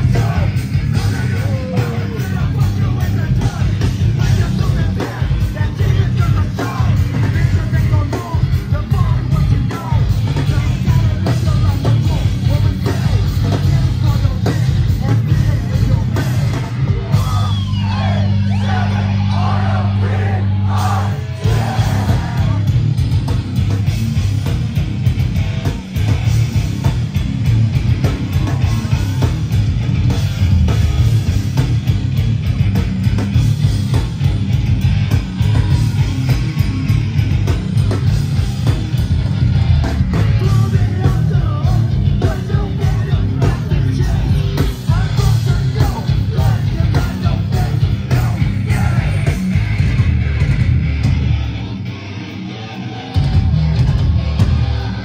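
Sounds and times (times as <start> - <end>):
punk band playing loud: 0.0 - 55.0.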